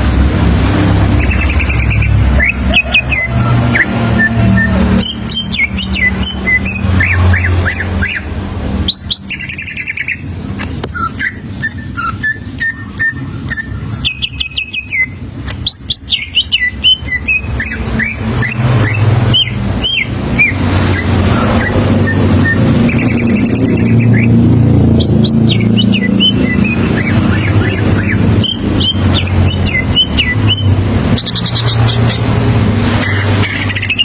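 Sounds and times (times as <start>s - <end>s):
bird whistled chirps and trills: 0.9s - 34.0s.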